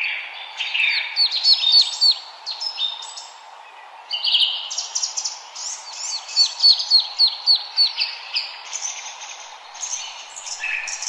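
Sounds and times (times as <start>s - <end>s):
birds singing and chirping: 0.0s - 11.0s
steady background hiss: 0.0s - 11.0s.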